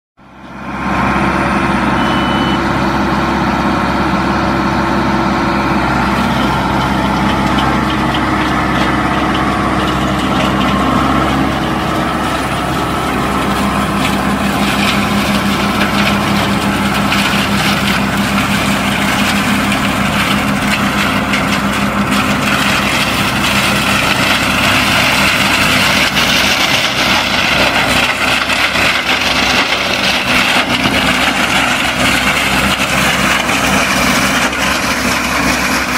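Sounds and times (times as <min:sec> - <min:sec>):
tractor diesel engine running: 0:00.2 - 0:35.9
mulcher shredding woody scrub: 0:00.3 - 0:35.9.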